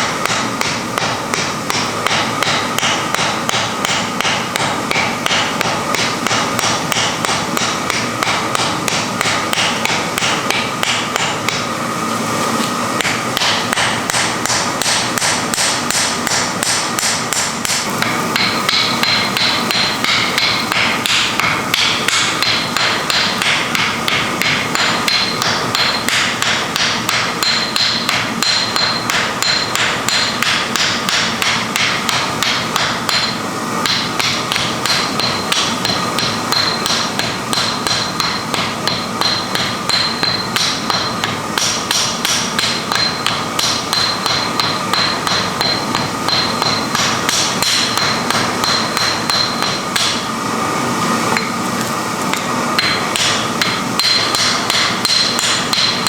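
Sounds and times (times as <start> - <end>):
hammer ringing on anvil: 0.0 - 11.6, 13.0 - 50.3, 52.3 - 56.0.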